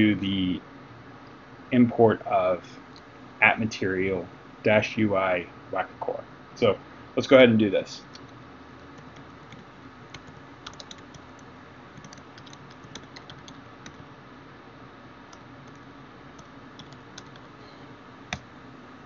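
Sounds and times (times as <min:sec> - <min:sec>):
low steady hiss: 0:00.0 - 0:19.0.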